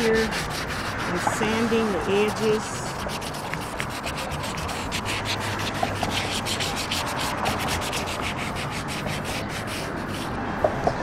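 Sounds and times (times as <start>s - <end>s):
sandpaper rubbing on paint: 0.0s - 10.4s.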